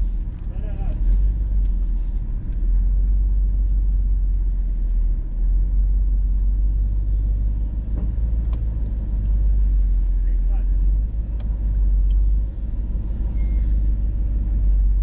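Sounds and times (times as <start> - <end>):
engine rumble inside cabin: 0.0 - 15.0.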